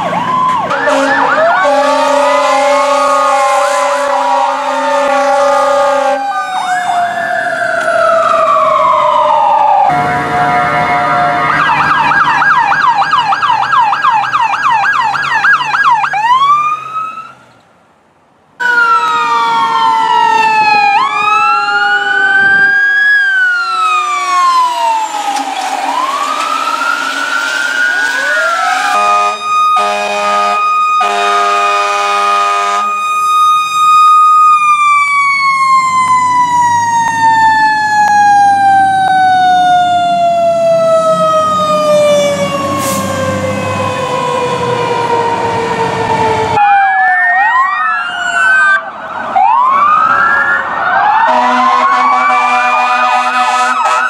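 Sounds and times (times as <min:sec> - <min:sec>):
siren horn blasts: 0:00.0 - 0:17.4, 0:18.6 - 0:48.9, 0:50.6 - 0:54.0
fire truck sirens wailing: 0:00.0 - 0:17.5, 0:18.6 - 0:54.0.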